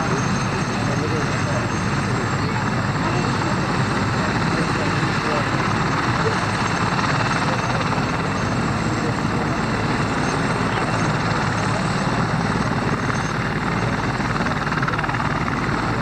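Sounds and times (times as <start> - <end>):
helicopter rotor and engine: 0.0 - 16.0.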